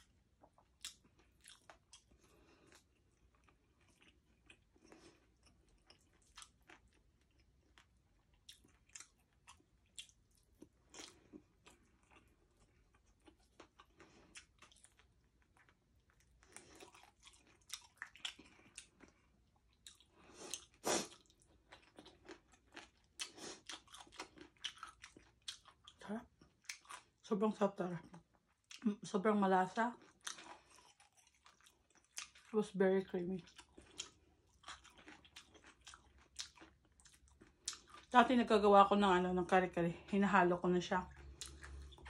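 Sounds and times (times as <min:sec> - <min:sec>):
crunching of crispy food: 0:00.0 - 0:27.2, 0:29.9 - 0:38.2
person chewing: 0:00.0 - 0:27.2, 0:28.1 - 0:28.9, 0:30.0 - 0:32.5, 0:33.4 - 0:38.1, 0:41.1 - 0:42.0.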